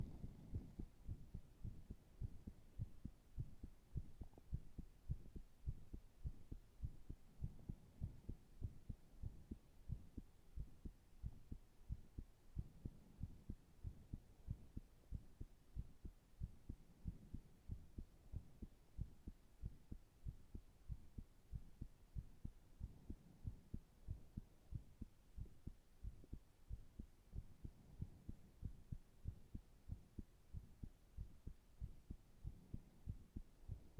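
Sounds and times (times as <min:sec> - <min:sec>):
heart beating: 0:00.0 - 0:33.9.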